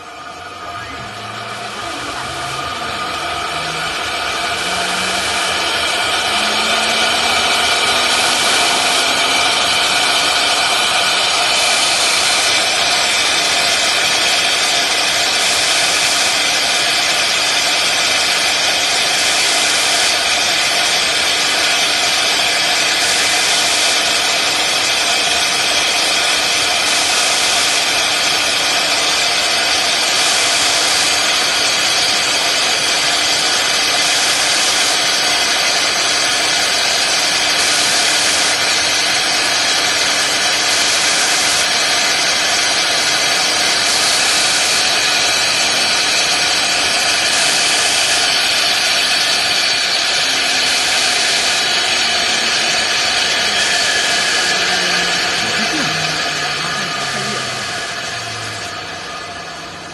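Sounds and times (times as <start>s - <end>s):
end mill cutting hiss: 0.0s - 59.8s
router spindle whine: 0.0s - 59.9s.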